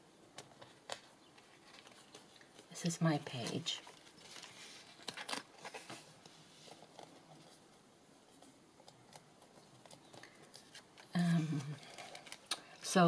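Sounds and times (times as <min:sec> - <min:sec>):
paper rustling: 0:00.4 - 0:13.0.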